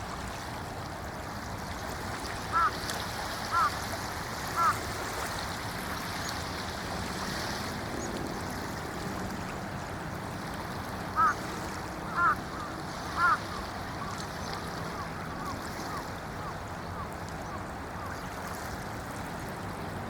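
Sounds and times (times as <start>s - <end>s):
small waves washing on beach: 0.0s - 20.0s.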